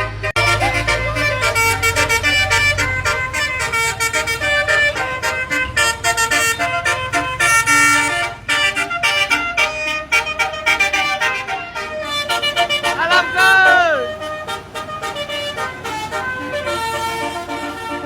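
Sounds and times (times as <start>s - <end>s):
musical air horn tooting: 0.0s - 18.0s.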